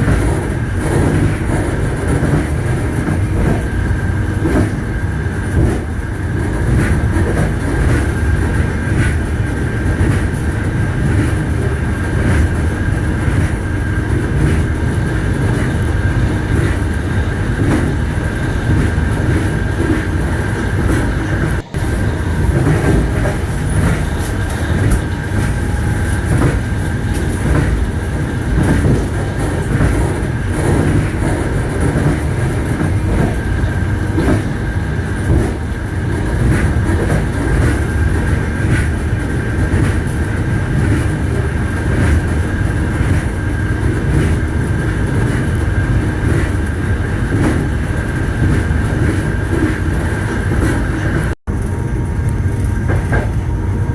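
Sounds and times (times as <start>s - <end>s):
train rumbling along track: 0.0s - 53.9s.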